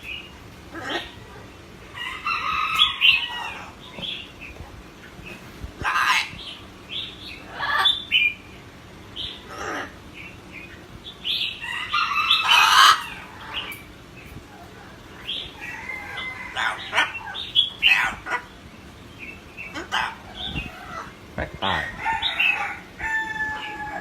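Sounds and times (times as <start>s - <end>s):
parrot chirping and squawking: 0.0s - 24.0s.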